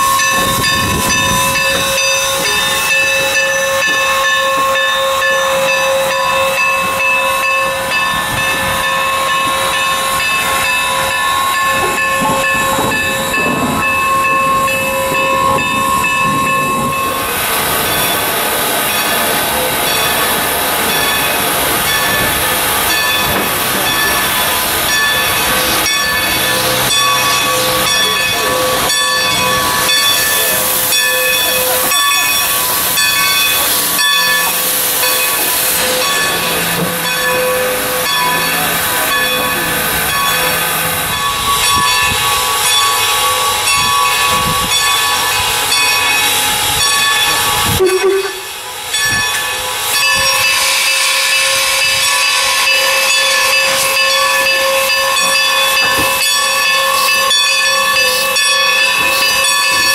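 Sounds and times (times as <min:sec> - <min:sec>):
steam locomotive hissing steam: 0:00.0 - 0:59.9.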